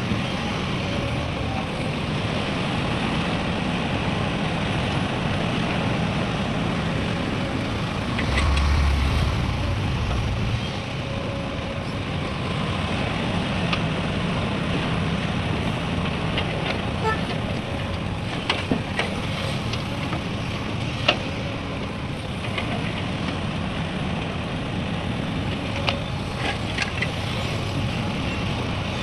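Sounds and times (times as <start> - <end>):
heavy diesel engines running: 0.0 - 29.0
road traffic noise: 0.0 - 29.0.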